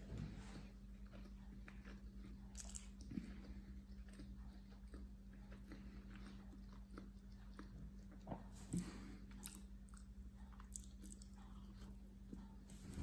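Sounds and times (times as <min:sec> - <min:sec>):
close-up chewing: 0:00.0 - 0:13.0
steady low hum: 0:00.0 - 0:13.0.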